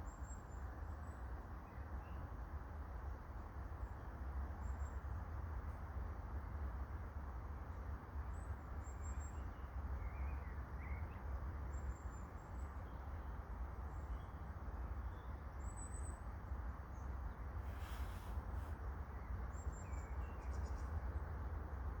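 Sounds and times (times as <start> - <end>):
low rumble and hiss: 0.0 - 22.0.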